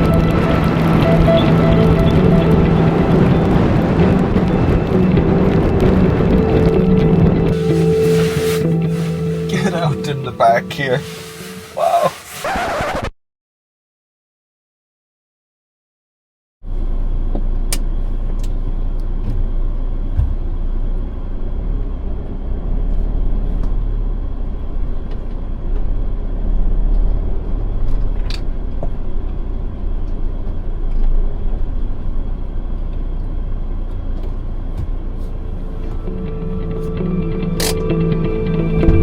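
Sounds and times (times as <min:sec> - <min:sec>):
van engine and road rumble: 0:00.0 - 0:12.6, 0:16.6 - 0:39.0.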